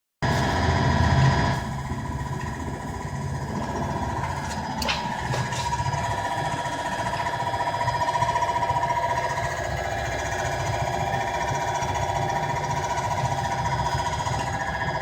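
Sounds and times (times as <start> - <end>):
machine hum with high whine: 0.2 - 15.0.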